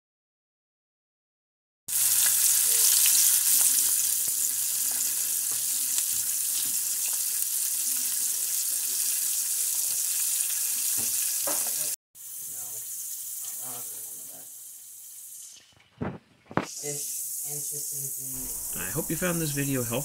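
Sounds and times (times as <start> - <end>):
fish sizzling in hot oil: 1.9 - 15.7, 16.7 - 19.6.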